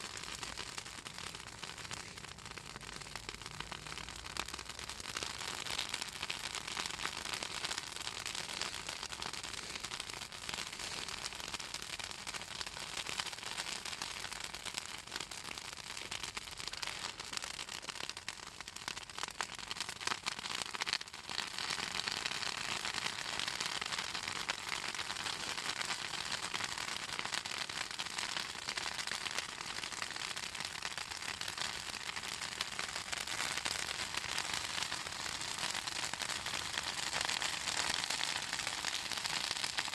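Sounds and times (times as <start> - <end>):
bonfire crackling and popping: 0.0 - 39.9
soft hiss of fire: 0.0 - 39.9.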